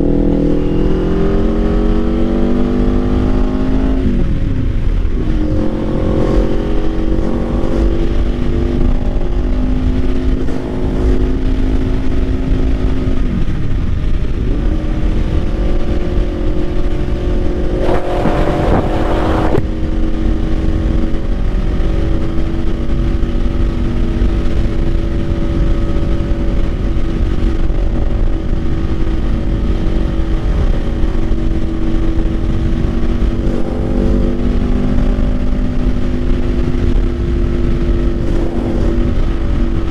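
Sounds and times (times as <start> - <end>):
low wind rumble: 0.0 - 39.9
motorcycle engine cruising: 0.0 - 39.9.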